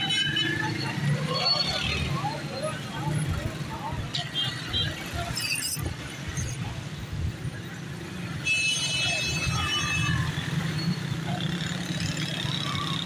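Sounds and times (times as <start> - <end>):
passing motorcycles and cars: 0.0 - 13.0.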